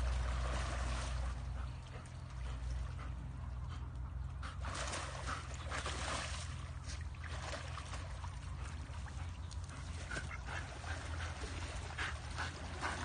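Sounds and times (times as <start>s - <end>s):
dog wading through water: 0.0s - 13.0s
steady low rumble: 0.0s - 13.0s.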